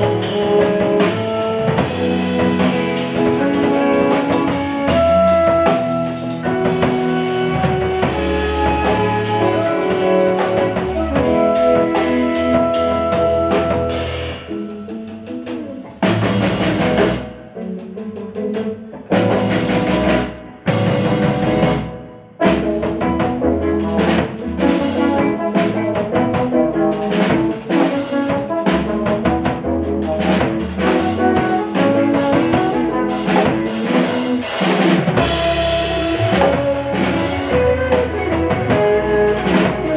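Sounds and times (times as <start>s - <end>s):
drum kit busy beat: 0.0s - 39.9s
live jazz band playing: 0.0s - 39.9s.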